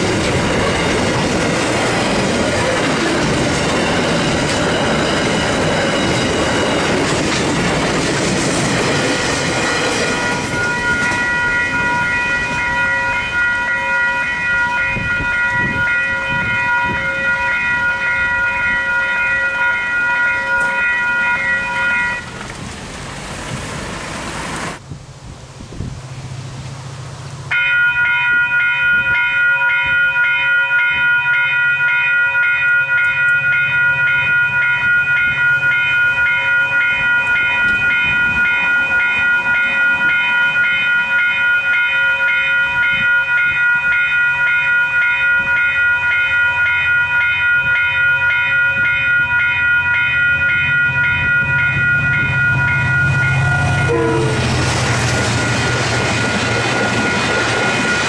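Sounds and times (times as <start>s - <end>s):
level crossing bells ringing: 0.0s - 7.9s, 8.6s - 22.3s, 27.5s - 58.0s
train passing with rushing rumble: 0.0s - 58.0s.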